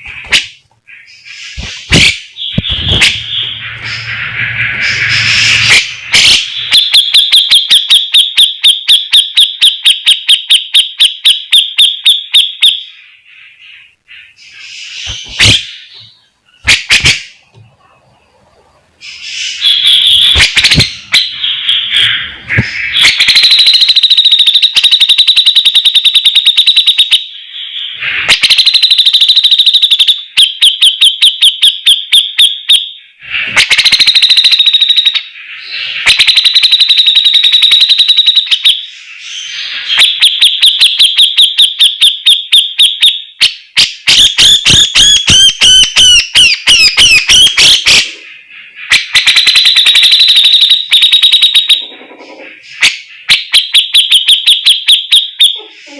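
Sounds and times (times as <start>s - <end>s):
bulbul singing: 0.0s - 17.8s, 19.0s - 55.9s.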